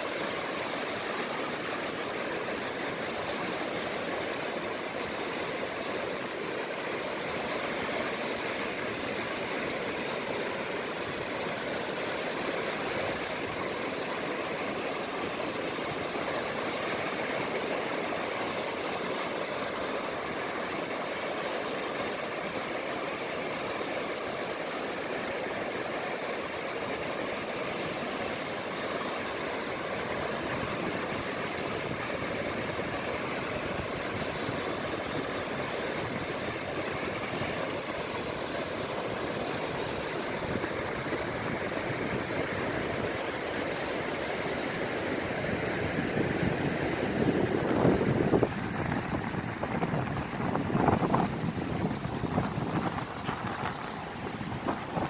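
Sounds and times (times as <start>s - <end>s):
small waves washing on shore: 0.0s - 55.0s.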